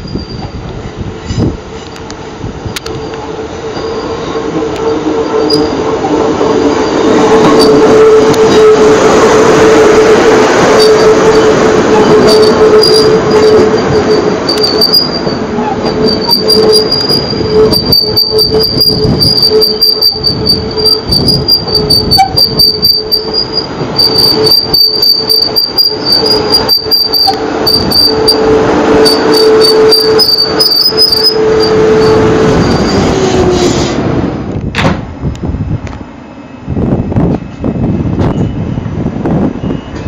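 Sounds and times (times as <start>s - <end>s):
train wheels squealing: 0.0s - 34.0s, 37.4s - 40.0s
rumble of train wheels: 0.0s - 40.0s.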